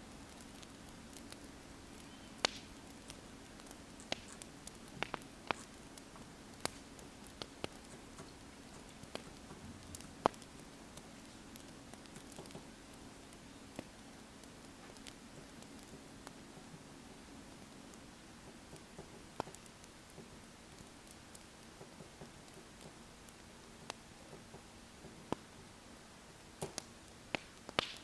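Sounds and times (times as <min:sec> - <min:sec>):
faint steady hiss and hum: 0:00.0 - 0:28.0
wood fire crackling and popping: 0:00.0 - 0:28.0.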